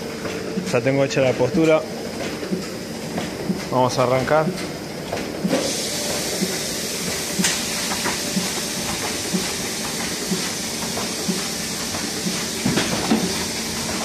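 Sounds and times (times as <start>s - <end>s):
printing press clatter and hiss: 0.0s - 14.0s.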